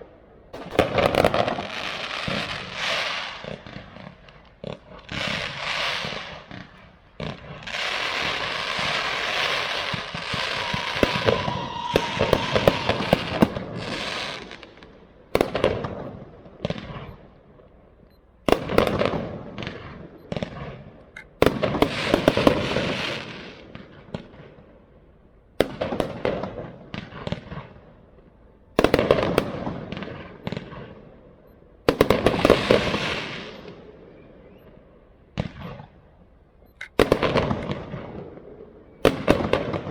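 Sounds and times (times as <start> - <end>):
fireworks bursting and crackling: 0.0 - 17.4, 18.5 - 25.0, 25.6 - 31.2, 31.8 - 36.2, 36.8 - 39.9.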